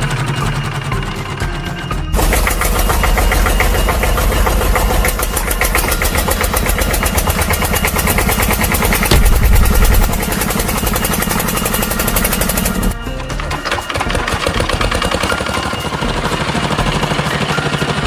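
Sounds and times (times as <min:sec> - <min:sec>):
machine clattering: 0:00.0 - 0:18.0.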